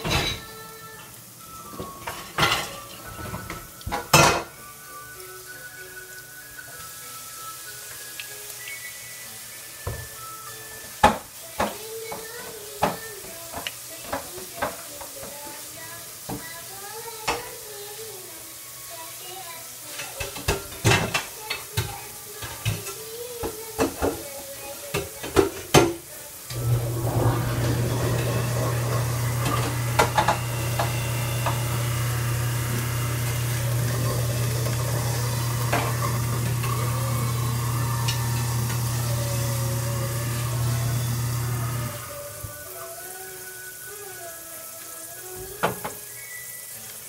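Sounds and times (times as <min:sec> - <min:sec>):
food frying sizzle: 0:00.0 - 0:47.0.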